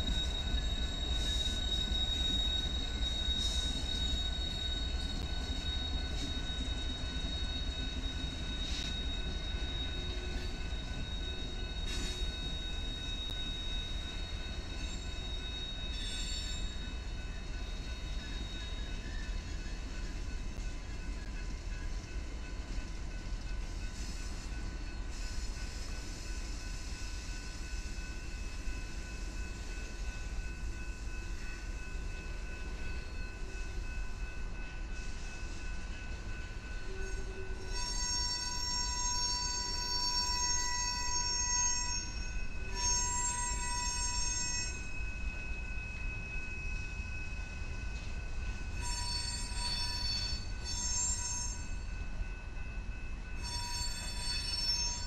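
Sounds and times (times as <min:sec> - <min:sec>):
steel wheel squeal: 0:00.0 - 0:22.2, 0:23.5 - 0:52.0, 0:53.2 - 0:55.0
freight train rumbling past: 0:00.0 - 0:55.0.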